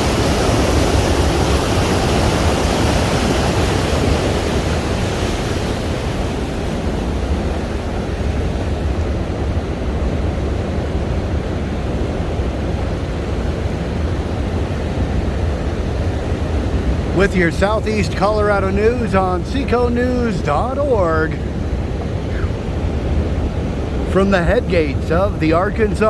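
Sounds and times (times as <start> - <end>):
water rushing with deep rumble: 0.0 - 26.0.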